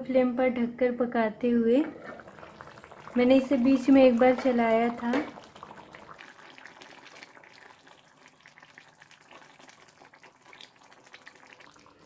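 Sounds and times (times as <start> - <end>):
gravy simmering with small pops: 1.4 - 12.0.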